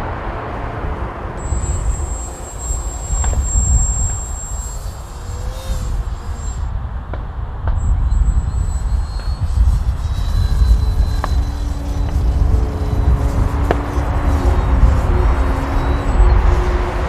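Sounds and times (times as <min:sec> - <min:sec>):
wind rumbling on microphone: 0:00.0 - 0:17.0
model airplane motor whining: 0:01.4 - 0:07.2, 0:07.8 - 0:17.0.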